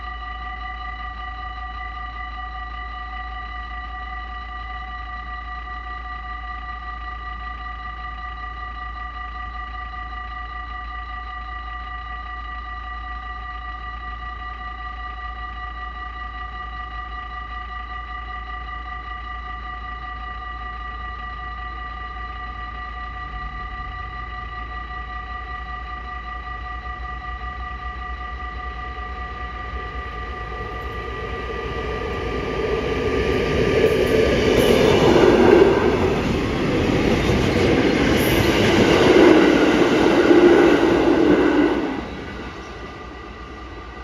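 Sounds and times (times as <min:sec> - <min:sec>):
level crossing warning bells: 0:00.0 - 0:44.0.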